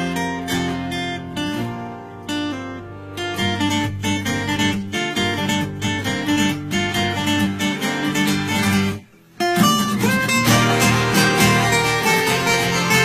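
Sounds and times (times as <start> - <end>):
acoustic guitar picked melody: 0.0 - 13.0.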